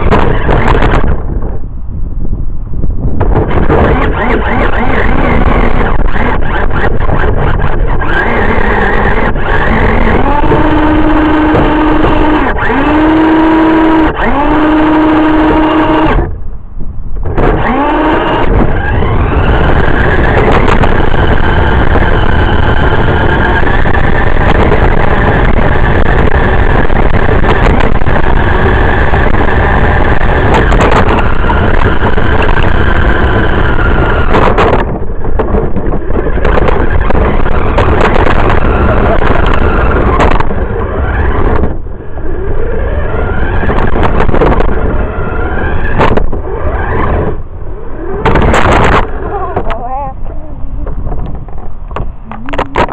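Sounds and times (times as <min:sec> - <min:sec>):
toy car motor whining: 0:00.0 - 0:01.1, 0:03.4 - 0:16.3, 0:17.2 - 0:50.2.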